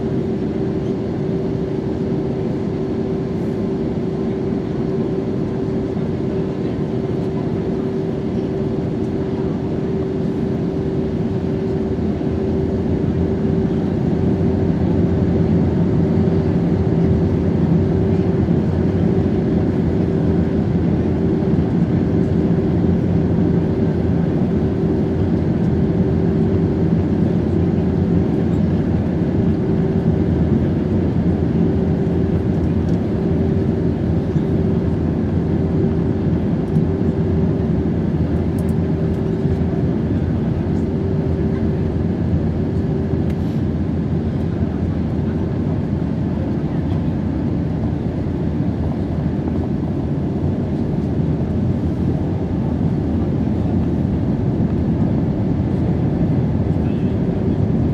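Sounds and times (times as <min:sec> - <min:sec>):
airplane cabin engine rumble: 0:00.0 - 0:57.9
constant low hum: 0:00.0 - 0:57.9.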